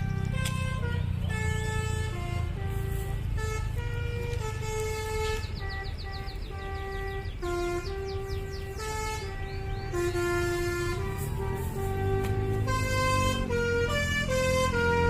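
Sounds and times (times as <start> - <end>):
bus musical horn: 0.0 - 15.0
engine rumble: 0.0 - 15.0.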